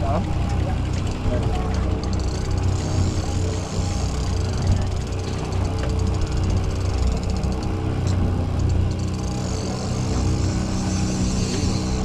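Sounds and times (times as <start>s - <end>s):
boat engine running: 0.0s - 12.0s
fishing reel ticking: 0.0s - 12.0s.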